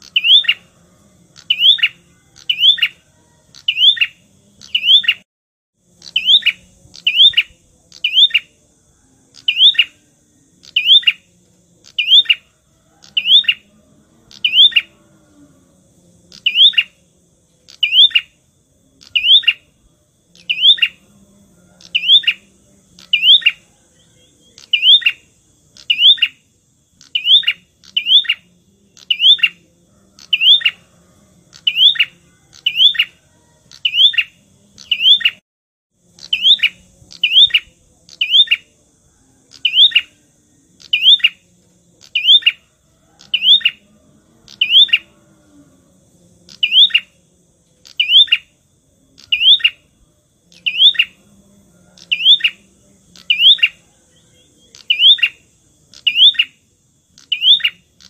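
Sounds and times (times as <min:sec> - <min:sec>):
songbird sharp chirp: 0:00.0 - 0:15.0, 0:16.2 - 0:35.4, 0:36.0 - 0:45.2, 0:46.4 - 0:51.3, 0:51.9 - 0:58.0.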